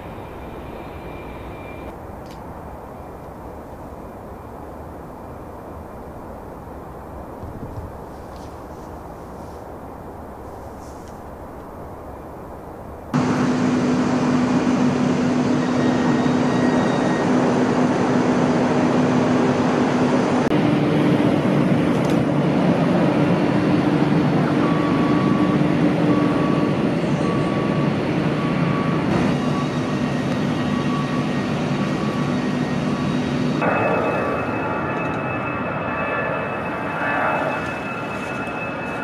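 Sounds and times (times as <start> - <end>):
jet engines running: 0.0 - 8.6, 11.3 - 39.0.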